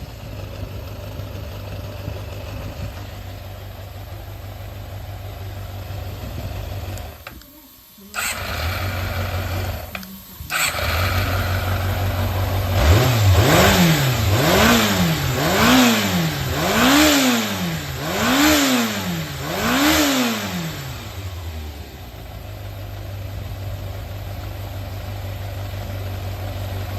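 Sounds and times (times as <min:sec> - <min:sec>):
motorcycle engine idling and revving: 0:00.0 - 0:07.4, 0:08.0 - 0:26.9.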